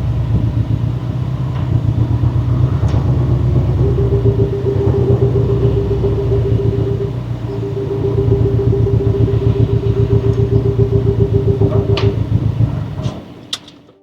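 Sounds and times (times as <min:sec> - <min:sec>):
turbocharged car engine running: 0:00.0 - 0:13.5.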